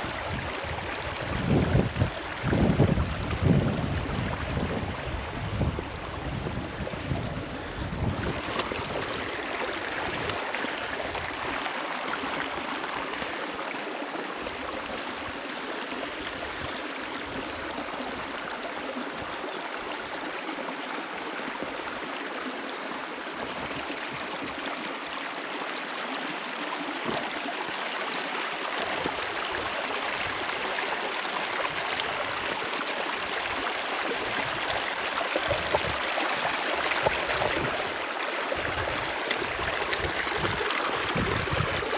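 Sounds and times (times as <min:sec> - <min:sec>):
stream water rushing over rocks: 0:00.0 - 0:41.9.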